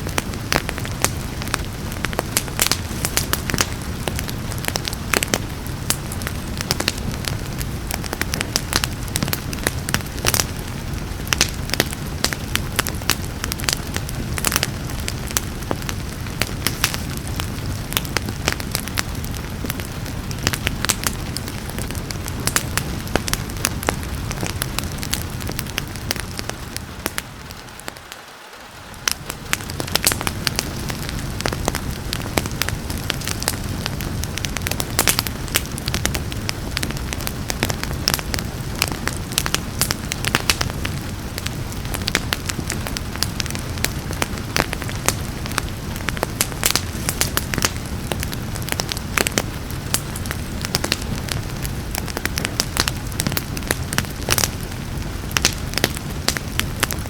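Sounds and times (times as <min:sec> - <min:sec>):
rain hiss: 0:00.0 - 0:57.0
wood fire crackling and popping: 0:00.0 - 0:57.0.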